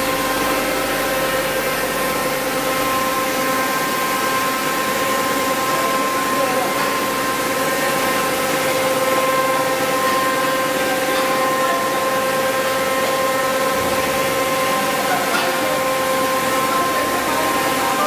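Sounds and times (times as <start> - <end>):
machinery drone: 0.0 - 18.0
steady whining tones: 0.0 - 18.0.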